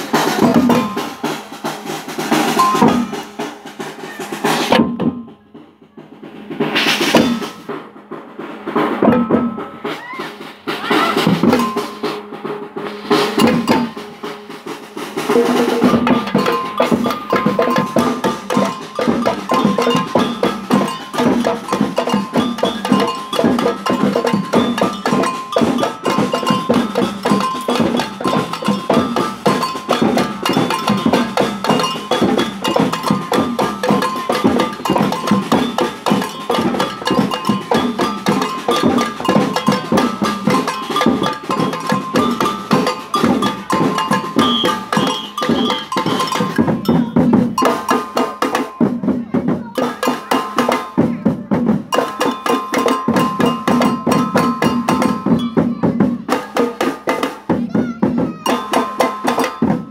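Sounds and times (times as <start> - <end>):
bass drum beats: 0.0 - 7.9, 8.8 - 59.9
samba band drumming: 0.0 - 59.9.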